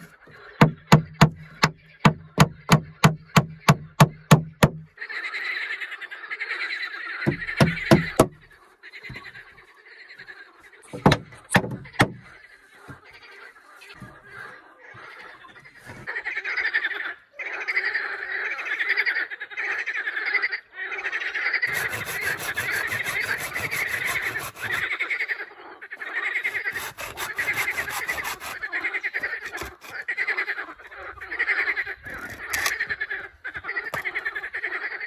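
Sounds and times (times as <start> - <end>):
frogs croaking: 0.0 - 35.0.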